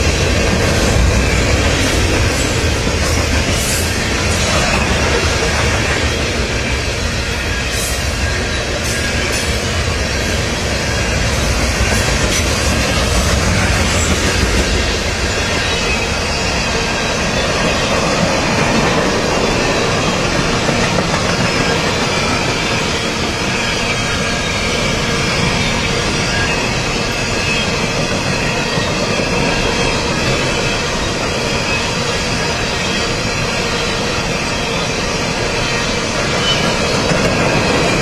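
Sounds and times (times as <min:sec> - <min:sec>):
freight train wheels on rail: 0:00.0 - 0:38.0.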